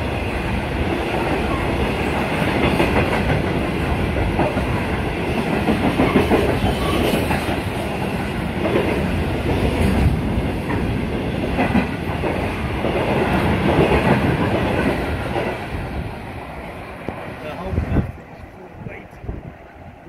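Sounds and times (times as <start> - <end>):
freight train rumble: 0.0 - 20.0.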